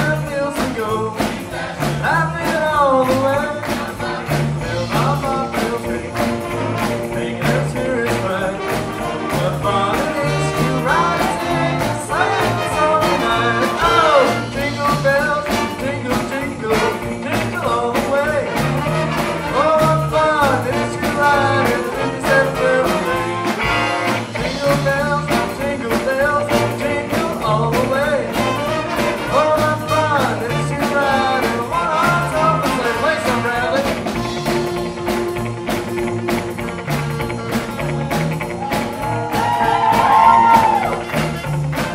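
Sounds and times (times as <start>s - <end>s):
swing band playing: 0.0s - 41.9s
horn section melody: 4.0s - 41.9s.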